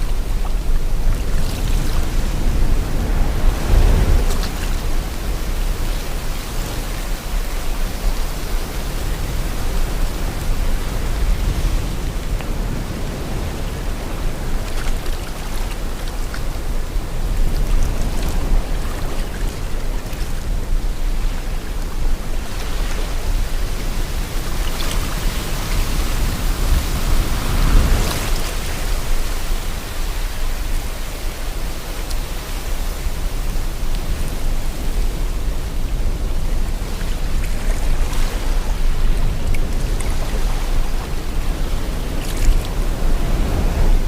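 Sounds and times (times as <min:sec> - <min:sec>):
sea water rushing: 0:00.0 - 0:44.0
wind: 0:00.0 - 0:44.0.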